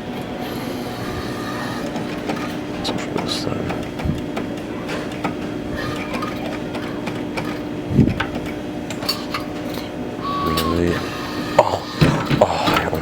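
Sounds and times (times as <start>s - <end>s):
claw machine motors whirring: 0.0s - 13.0s
steady hum: 0.0s - 13.0s.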